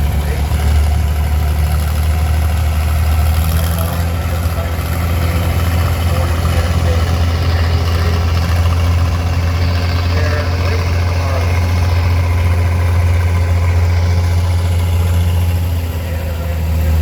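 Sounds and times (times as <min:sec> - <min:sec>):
engine droning at low speed: 0:00.0 - 0:17.0.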